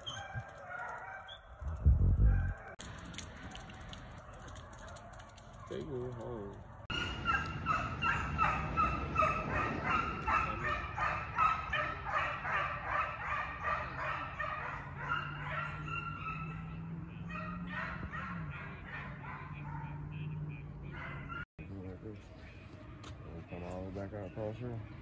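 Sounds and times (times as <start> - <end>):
hounds baying: 0.0 - 1.6, 2.3 - 21.5.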